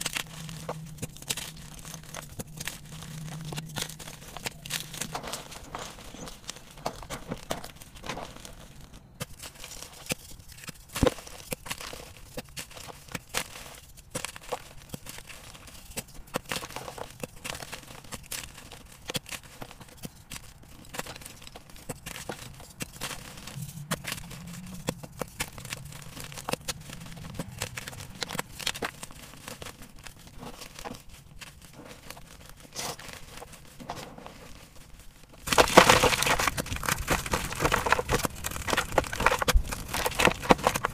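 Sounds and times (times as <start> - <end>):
chalk crunching between fingers: 0.0 - 35.4.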